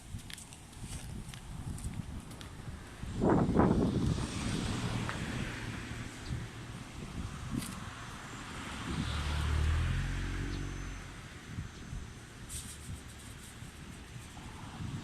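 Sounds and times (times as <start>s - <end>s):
wind noise on microphone: 0.0s - 15.0s
low vehicle rumble: 1.4s - 15.0s.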